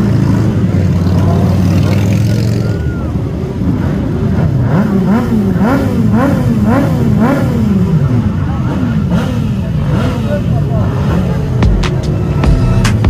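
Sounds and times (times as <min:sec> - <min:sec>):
motorcycle engine revving: 0:00.0 - 0:13.0
motorcycle engines idling: 0:00.0 - 0:13.0.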